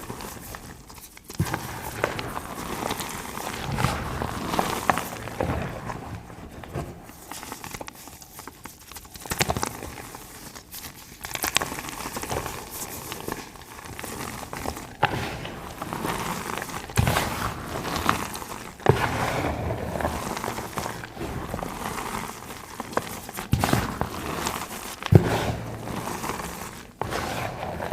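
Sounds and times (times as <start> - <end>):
chalk being crushed: 0.0 - 27.9.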